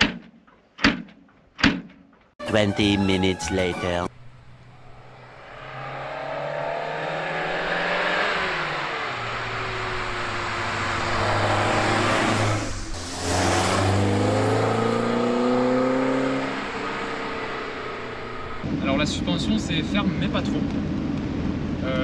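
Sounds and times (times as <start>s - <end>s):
car engine pulling hard: 3.4s - 22.0s.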